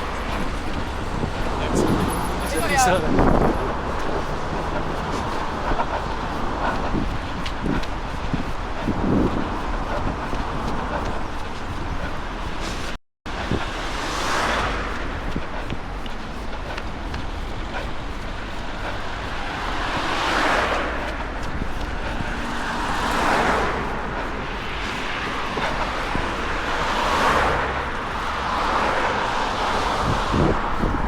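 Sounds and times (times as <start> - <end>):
cars passing: 0.0 - 31.0
wind rumble on microphone: 0.0 - 31.0.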